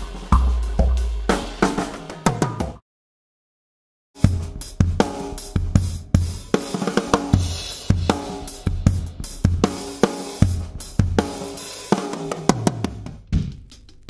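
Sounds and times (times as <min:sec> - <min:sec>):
drum kit playing steady groove: 0:00.0 - 0:02.8, 0:04.2 - 0:14.0.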